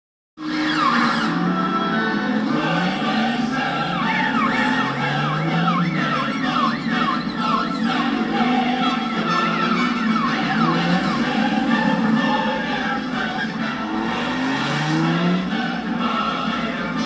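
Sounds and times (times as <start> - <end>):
police siren yelping: 0.4 - 17.0
dramatic music with choir: 1.3 - 17.0.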